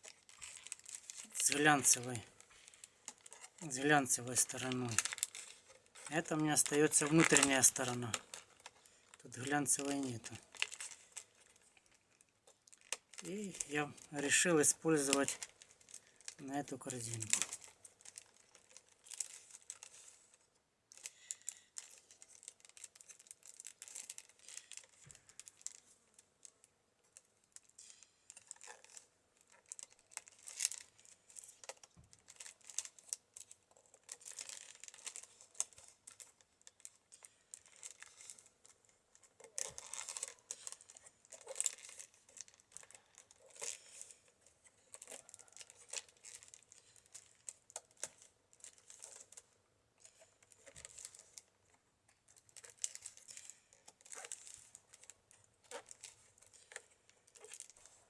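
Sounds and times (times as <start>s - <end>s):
root rustling and crackling in basket: 0.0s - 25.8s, 27.6s - 49.4s, 52.3s - 58.0s.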